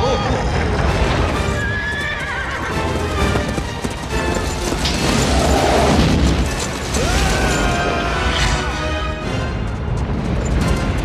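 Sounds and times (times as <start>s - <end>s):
film music: 0.0s - 11.0s.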